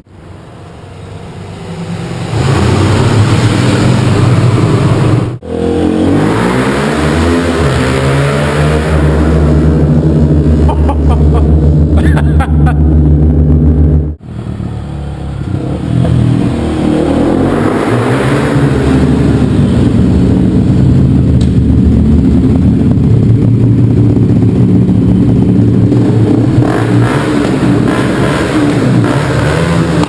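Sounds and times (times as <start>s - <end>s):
motorcycle engine in a tunnel: 0.0s - 30.0s.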